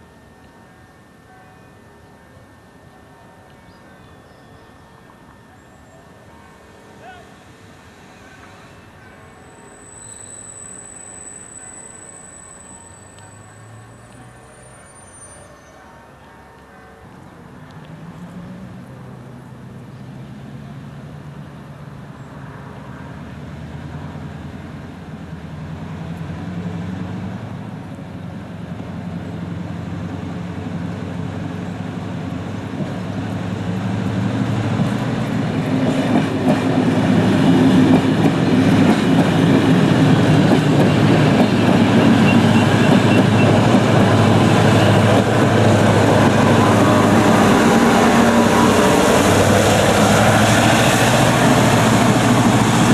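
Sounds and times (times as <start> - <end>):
diesel locomotive engine drone: 0.0 - 52.9.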